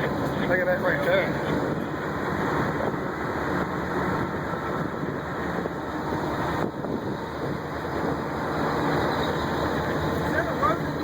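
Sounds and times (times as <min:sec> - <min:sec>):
moving vehicle noise: 0:00.0 - 0:11.0.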